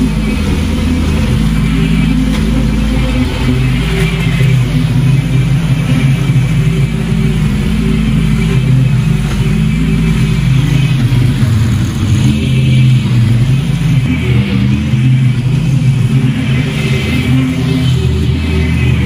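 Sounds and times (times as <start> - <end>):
riding mower engine running: 0.0 - 19.0.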